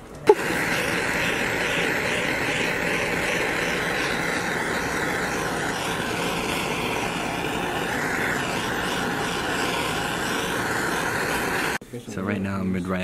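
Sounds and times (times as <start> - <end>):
gas torch flame hissing: 0.0 - 11.8.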